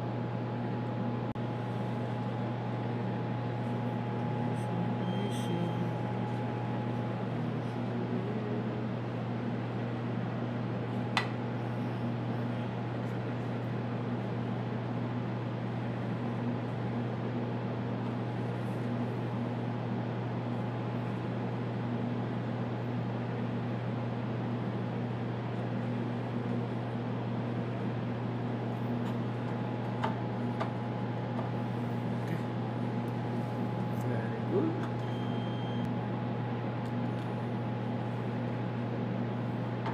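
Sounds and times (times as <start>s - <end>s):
cooling fans humming: 0.0s - 39.9s
faint steady whine: 0.0s - 39.9s.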